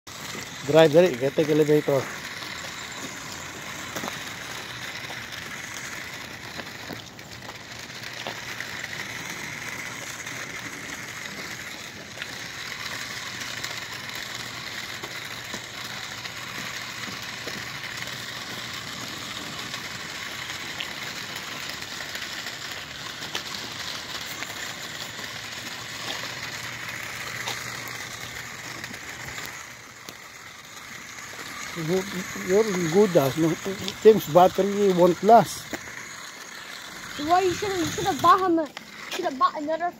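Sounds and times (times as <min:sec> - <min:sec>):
plastic tyres rolling on concrete: 0:00.1 - 0:39.9
toy car motor whirring: 0:00.1 - 0:39.9.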